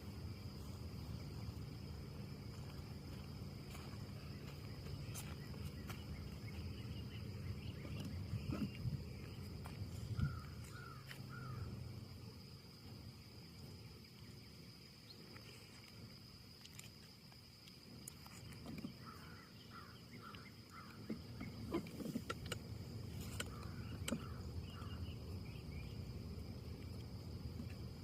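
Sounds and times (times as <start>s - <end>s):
steady high-pitched hum: 0.0s - 16.3s, 17.8s - 28.0s.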